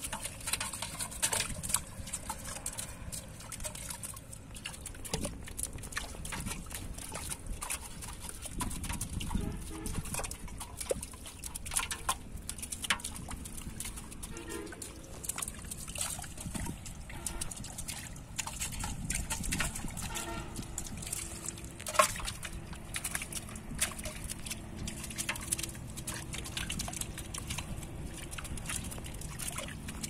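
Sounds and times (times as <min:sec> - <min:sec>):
water sloshing and trickling: 0:00.0 - 0:30.0.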